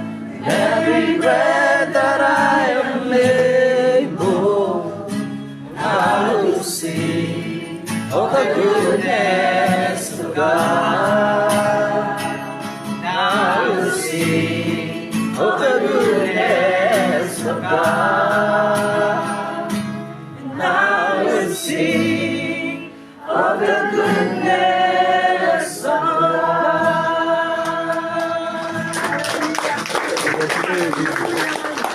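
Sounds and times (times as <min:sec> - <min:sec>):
voices singing in harmony: 0:00.0 - 0:29.0.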